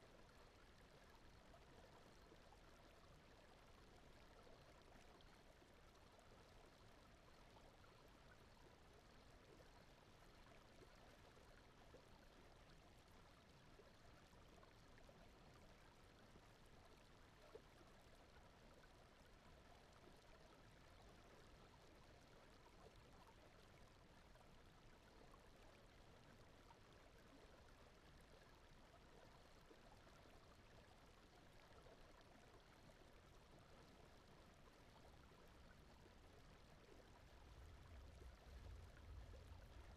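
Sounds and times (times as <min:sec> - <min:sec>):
faint brown noise hiss: 0:00.0 - 0:39.9.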